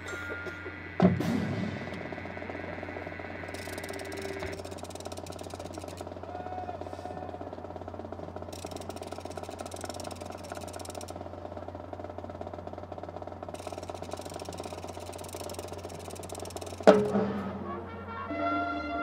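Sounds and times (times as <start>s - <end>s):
low buzzing hum: 0.0s - 19.0s.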